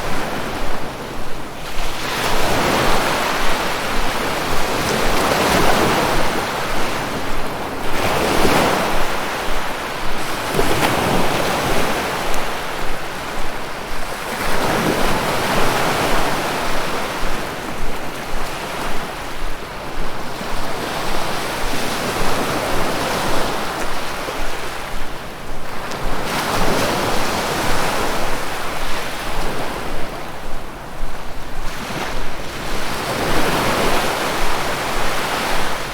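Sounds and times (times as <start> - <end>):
ocean waves breaking on shore: 0.0 - 35.9
wind rumbling on microphone: 0.0 - 35.9.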